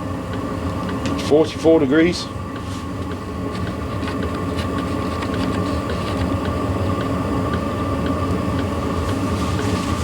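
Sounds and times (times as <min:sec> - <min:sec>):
fan whine: 0:00.0 - 0:10.0
heater combustion rumble: 0:00.0 - 0:10.0.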